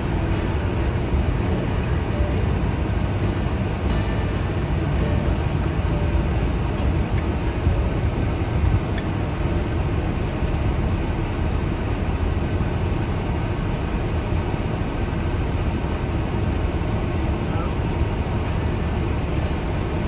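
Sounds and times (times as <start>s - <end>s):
car engine running inside cabin: 0.0s - 20.0s.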